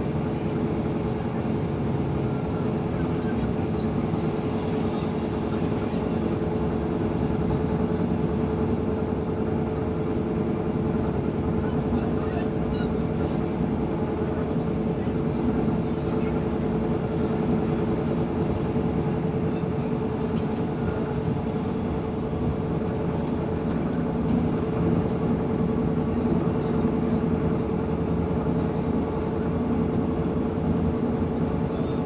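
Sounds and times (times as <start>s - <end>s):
diesel engine drone: 0.0s - 32.0s
wheel-on-rail rumble: 0.0s - 32.0s.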